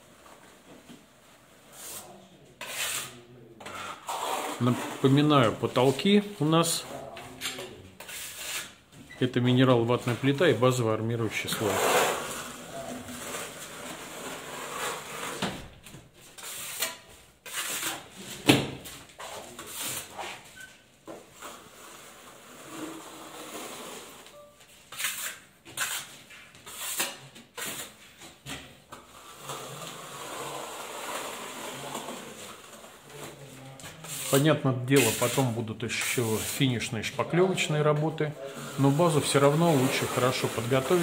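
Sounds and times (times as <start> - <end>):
trowel scraping plaster: 1.7 - 6.1, 6.8 - 8.8, 11.3 - 15.5, 16.3 - 18.4, 19.1 - 37.3, 38.4 - 41.0.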